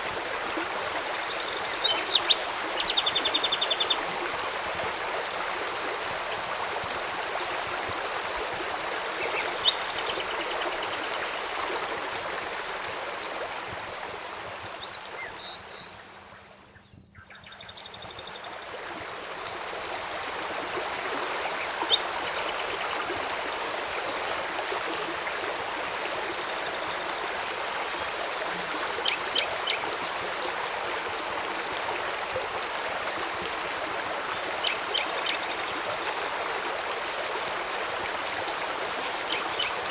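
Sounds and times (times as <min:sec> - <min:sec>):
river flowing: 0:00.0 - 0:16.2, 0:18.6 - 0:39.9.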